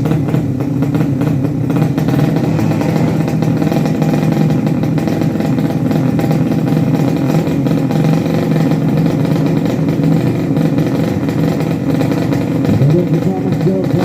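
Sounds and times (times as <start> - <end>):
racing motorcycle engines: 0.0 - 14.0.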